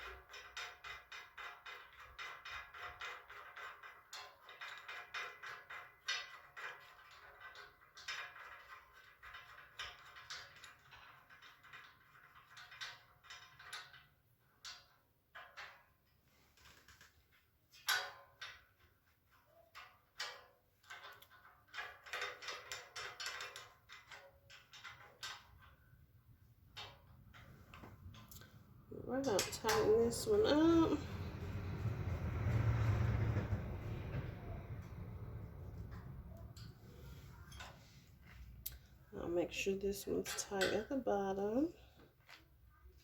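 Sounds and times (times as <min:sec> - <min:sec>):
metal parts being handled: 0:00.0 - 0:31.6, 0:35.6 - 0:41.2.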